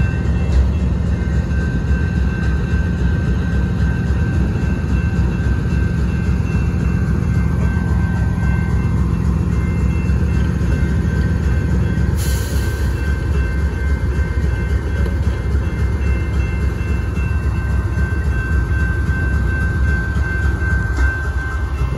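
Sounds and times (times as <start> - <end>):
diesel locomotive engine rumble: 0.0 - 21.9.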